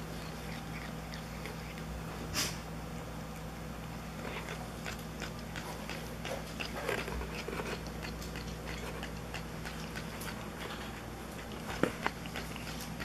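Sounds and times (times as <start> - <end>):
cat chewing grass: 0.0 - 2.3, 2.9 - 13.0.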